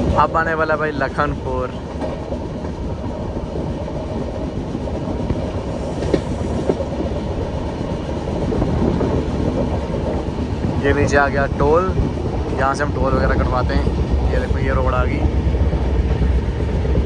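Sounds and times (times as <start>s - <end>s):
train wheels rumbling on rails: 0.0s - 17.0s
wheels clicking over rail joints: 0.0s - 17.0s.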